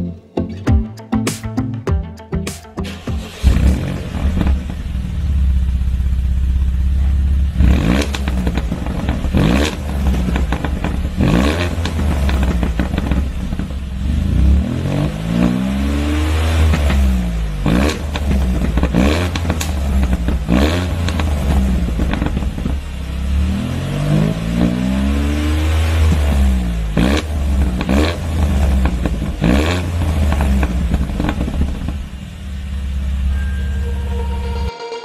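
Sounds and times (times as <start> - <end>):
car engine idling and revving: 2.8 - 34.7.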